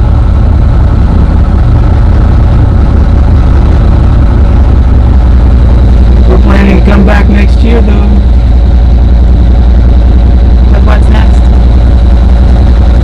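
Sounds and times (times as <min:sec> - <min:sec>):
boat diesel engine droning: 0:00.0 - 0:13.0.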